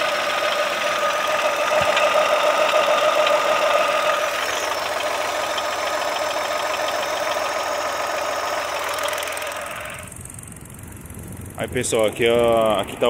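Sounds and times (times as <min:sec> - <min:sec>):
car engine idling with whine: 0:00.0 - 0:13.0
fast even ticking: 0:00.0 - 0:13.0.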